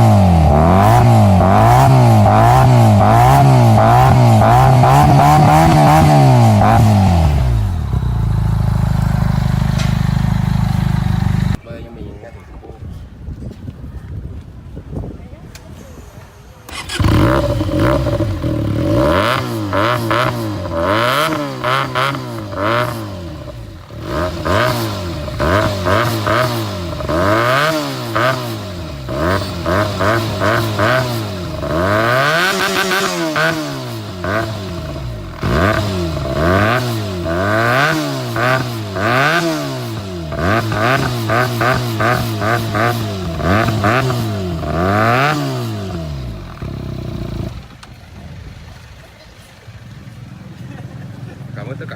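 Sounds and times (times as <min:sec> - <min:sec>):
motorcycle engine revving: 0:00.0 - 0:11.6, 0:16.0 - 0:51.9.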